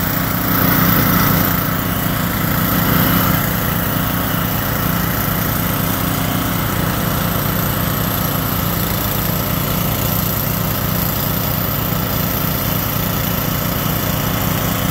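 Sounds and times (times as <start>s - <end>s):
small gasoline engine running: 0.0s - 14.9s.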